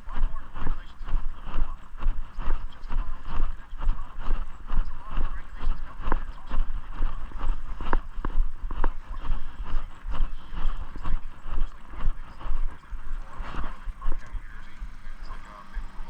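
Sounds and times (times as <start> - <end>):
footsteps walking: 0.0 - 16.0
low wind rumble on microphone: 0.0 - 16.0.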